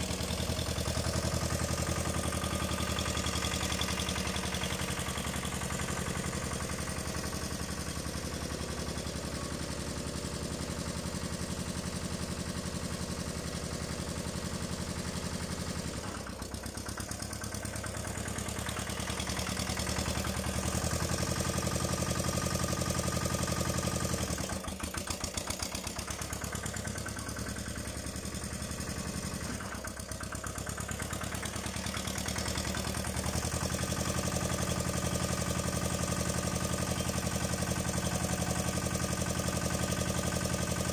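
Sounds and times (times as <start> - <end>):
mini tractor engine running: 0.0 - 40.9.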